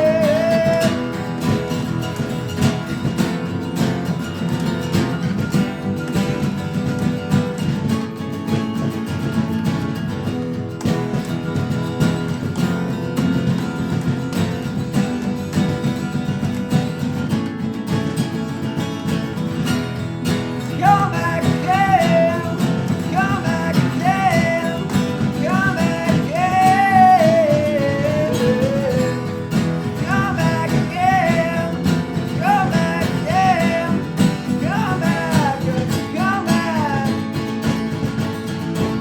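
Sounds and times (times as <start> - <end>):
bass: 0.0 - 39.0
percussion: 0.0 - 39.0
strummed acoustic guitars: 0.0 - 39.0.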